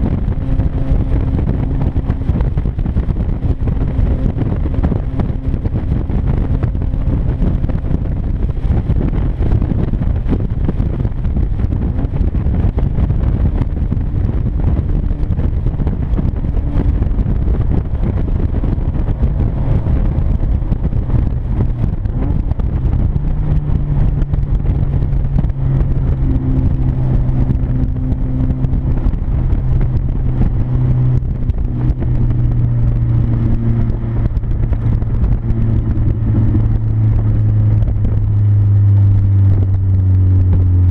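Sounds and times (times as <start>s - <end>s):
car engine with exhaust leak: 0.0s - 40.9s
road rumble: 0.0s - 40.9s
steady drone shifting pitch: 0.0s - 40.9s.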